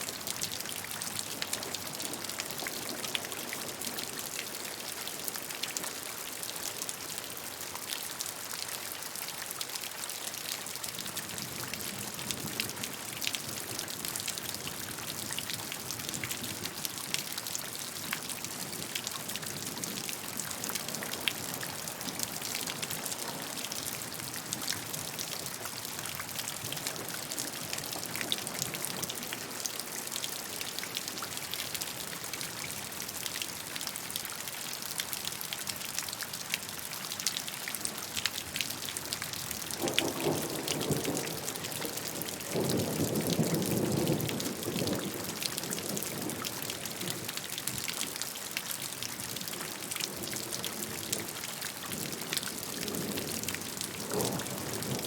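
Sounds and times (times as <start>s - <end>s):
raindrops pattering: 0.0s - 55.0s.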